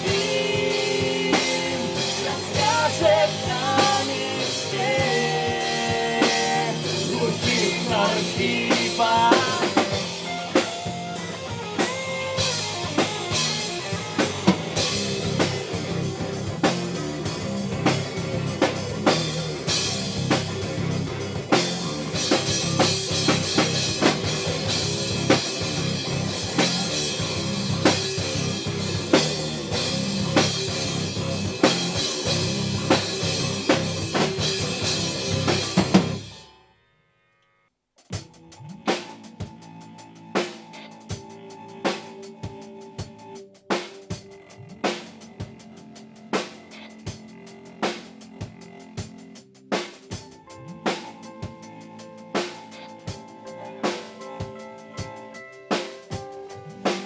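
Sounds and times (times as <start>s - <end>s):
rock band playing: 0.0s - 36.6s, 38.1s - 57.0s.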